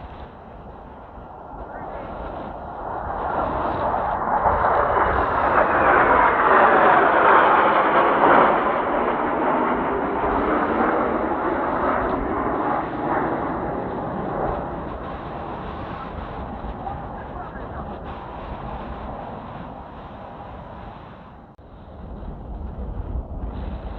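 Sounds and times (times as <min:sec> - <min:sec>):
jet aircraft passing overhead: 0:00.0 - 0:23.9
wind buffeting microphone: 0:00.0 - 0:23.9.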